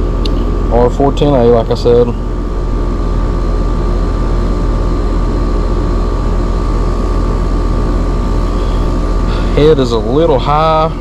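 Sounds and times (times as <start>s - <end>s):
compressor hum: 0.0s - 11.0s
condenser fan noise: 0.0s - 11.0s
constant high whine: 0.0s - 11.0s.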